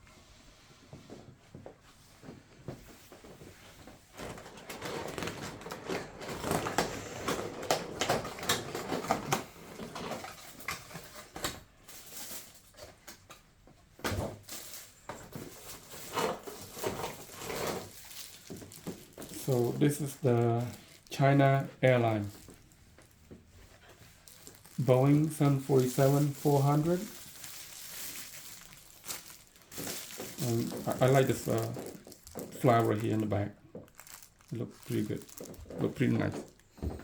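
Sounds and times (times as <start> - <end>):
packaging rustling: 4.2 - 13.2, 14.4 - 37.0.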